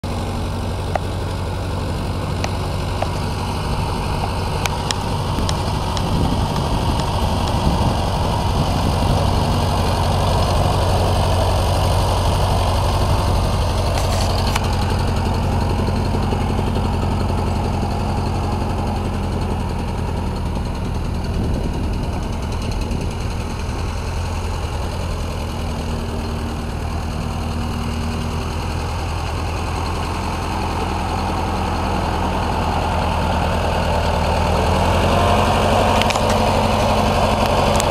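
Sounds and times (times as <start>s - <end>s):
tractor engine running: 0.0s - 37.9s.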